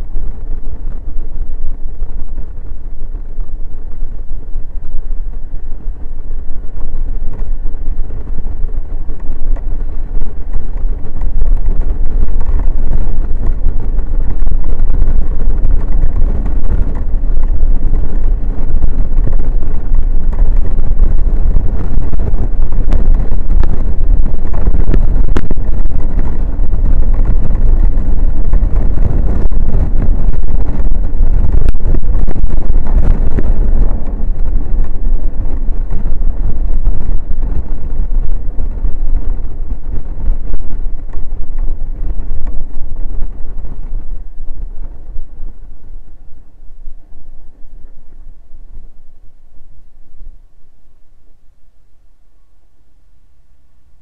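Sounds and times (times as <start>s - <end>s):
wind buffeting microphone: 0.0s - 51.5s.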